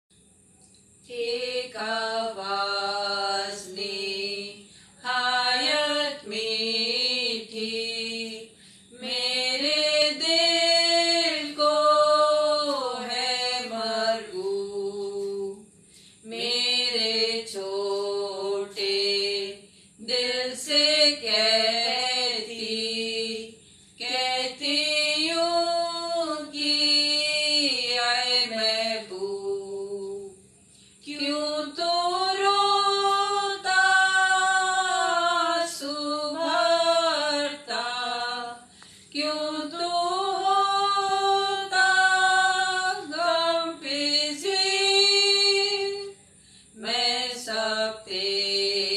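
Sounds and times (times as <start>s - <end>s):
women singing a hymn: 1.0s - 48.9s.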